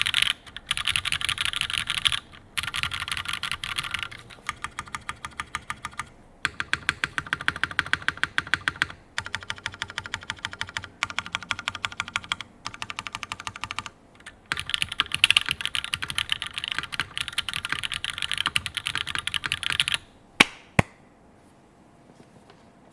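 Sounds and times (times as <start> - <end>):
mechanical keyboard typing: 0.0 - 20.1.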